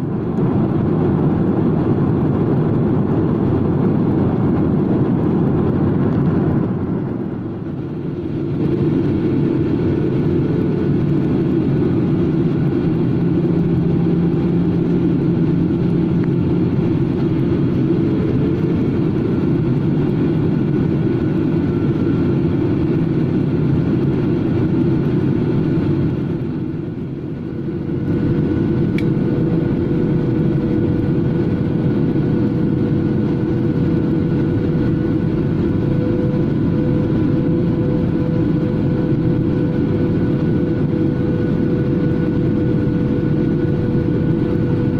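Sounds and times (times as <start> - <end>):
airliner cabin rumble: 0.0 - 44.9.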